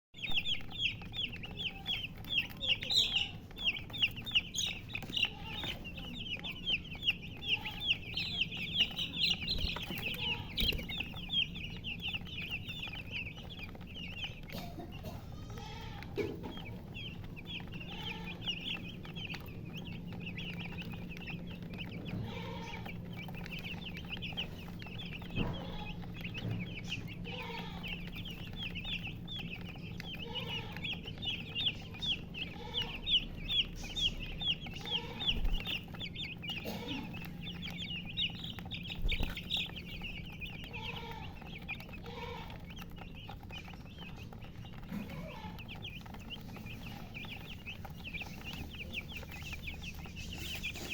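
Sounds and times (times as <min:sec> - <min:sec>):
chicks peeping: 0:00.1 - 0:50.9
hen clucking: 0:00.2 - 0:50.9.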